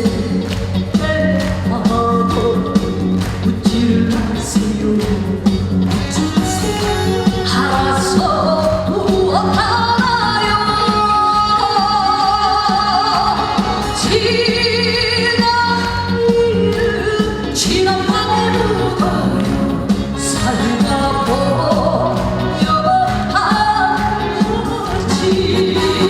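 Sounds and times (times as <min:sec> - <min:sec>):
band playing: 0:00.0 - 0:26.0
person singing: 0:00.0 - 0:26.0.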